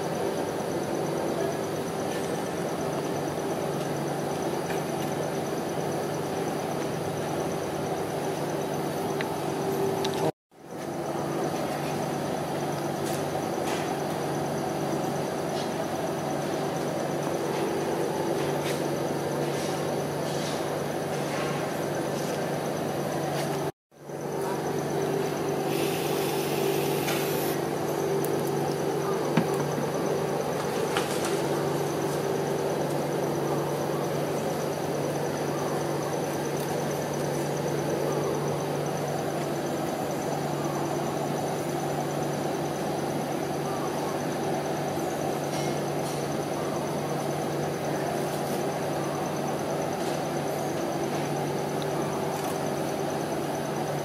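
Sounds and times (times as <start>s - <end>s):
refrigeration compressor humming: 0.0s - 54.0s.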